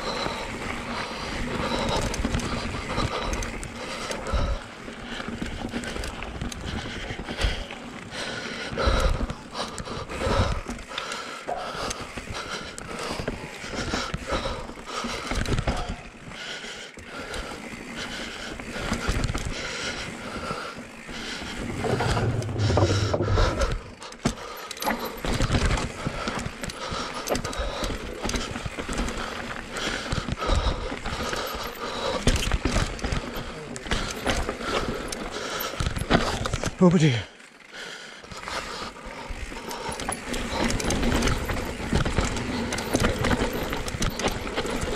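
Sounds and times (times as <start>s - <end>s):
bike tyres scrabbling over dirt: 0.0s - 16.4s, 17.0s - 44.9s
bike chain and frame rattling: 0.0s - 44.9s.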